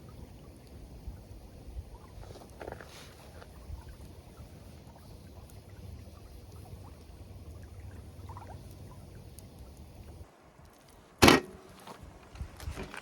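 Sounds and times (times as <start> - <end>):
faint crackles: 0.0 - 13.0.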